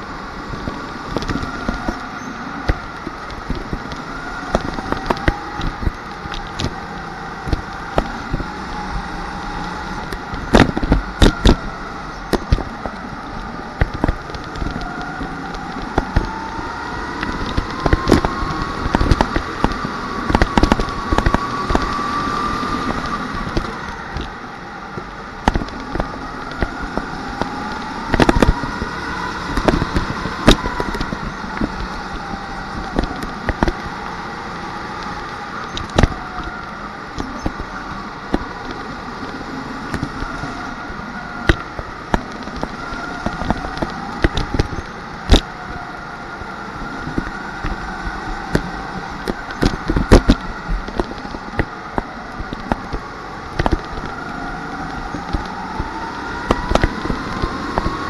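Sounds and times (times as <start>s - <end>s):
go-kart motor whining: 0.0s - 58.0s.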